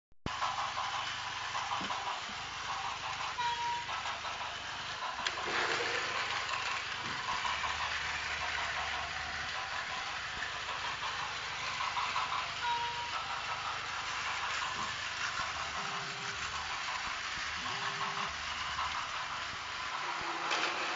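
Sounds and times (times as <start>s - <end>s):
toy trains whirring and rattling: 0.3s - 20.9s.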